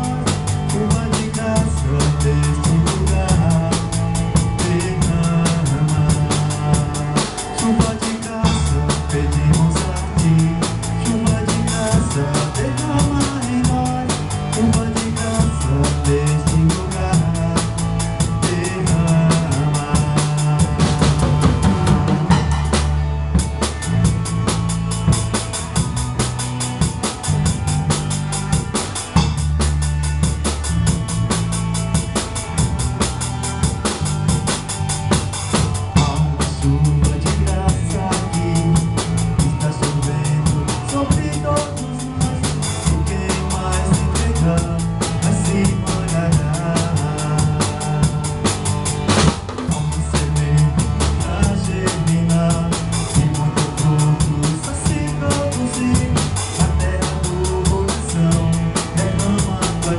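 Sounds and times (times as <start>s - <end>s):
drum kit beat: 0.0s - 59.9s
live band playing: 0.0s - 59.9s.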